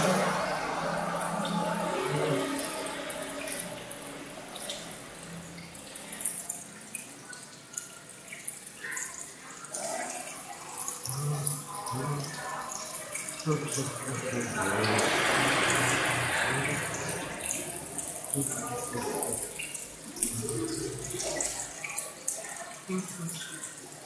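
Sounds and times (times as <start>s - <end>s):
aquarium water trickling: 0.0s - 24.0s
water dripping and splashing: 0.0s - 24.0s.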